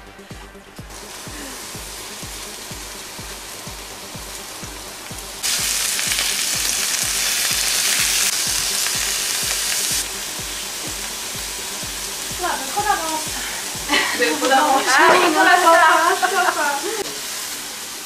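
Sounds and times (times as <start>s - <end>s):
meat sizzling in a frying pan: 1.0s - 18.0s.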